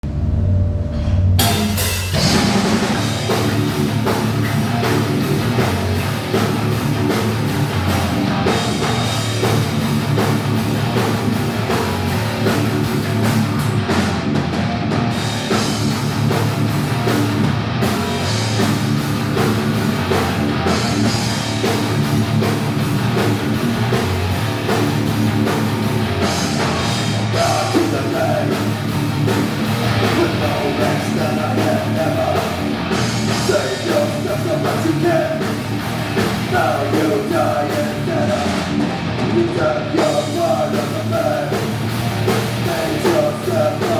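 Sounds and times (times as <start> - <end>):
thrash metal band playing: 0.0 - 43.9.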